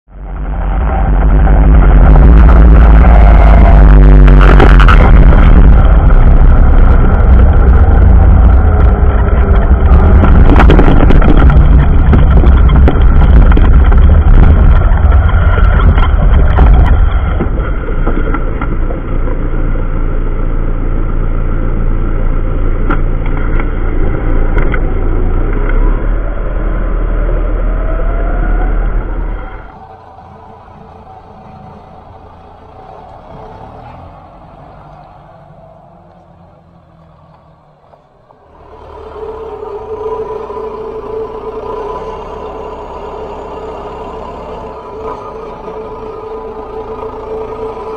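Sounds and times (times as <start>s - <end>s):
tractor diesel engine running: 0.1s - 47.9s.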